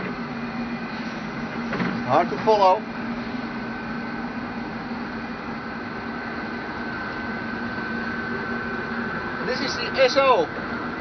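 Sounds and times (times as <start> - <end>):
ventilation fans humming: 0.0 - 11.0.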